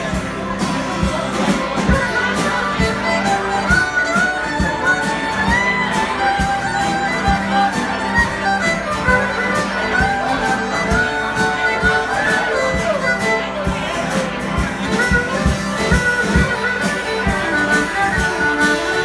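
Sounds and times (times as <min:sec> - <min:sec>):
fiddles playing melody: 0:00.0 - 0:19.0
steady beat: 0:00.0 - 0:19.0
strummed acoustic guitar: 0:00.0 - 0:19.0.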